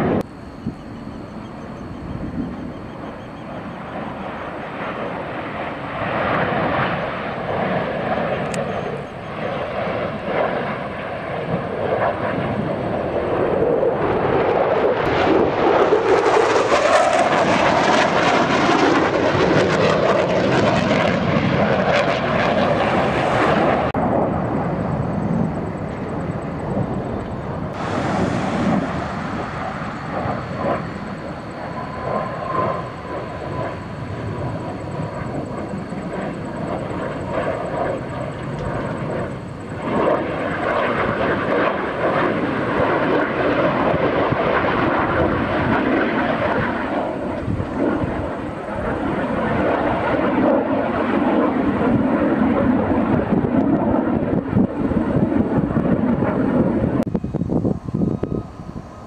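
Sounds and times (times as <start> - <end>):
jet engines roaring overhead: 0.0 - 59.0.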